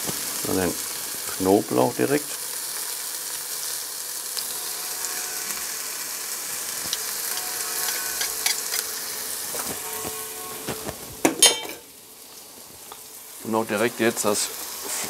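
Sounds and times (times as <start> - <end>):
shallots sizzling in oil: 0.0 - 15.0.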